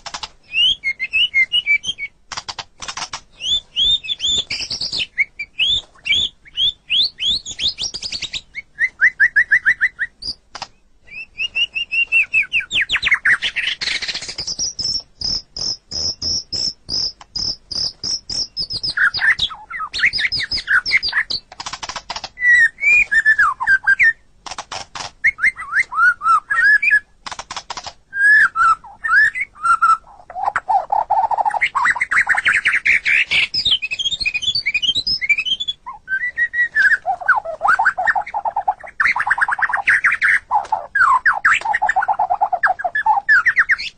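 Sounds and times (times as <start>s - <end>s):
bird singing trills and whistles: 0.4s - 2.4s, 3.0s - 24.3s, 25.0s - 27.2s, 28.1s - 43.9s.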